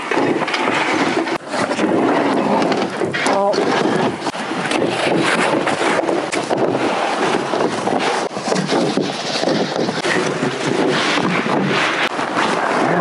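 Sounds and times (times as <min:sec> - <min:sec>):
foam pad rustling and scraping: 0:00.0 - 0:13.0.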